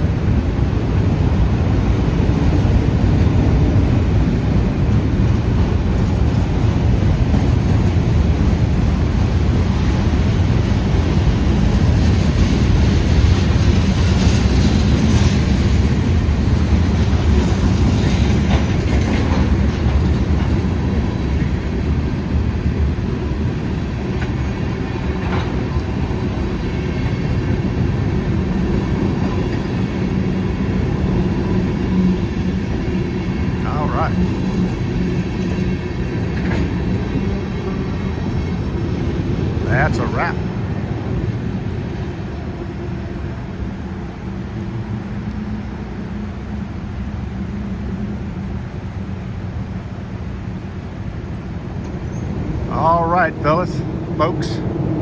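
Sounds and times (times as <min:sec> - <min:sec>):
freight train rumbling and clattering: 0:00.0 - 0:55.0.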